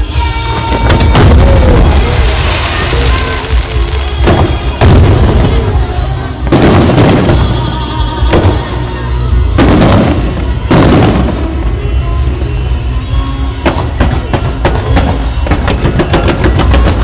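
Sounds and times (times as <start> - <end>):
fireworks booming: 0.0 - 17.0
fireworks crackling: 0.0 - 17.0
music playing: 0.0 - 17.0.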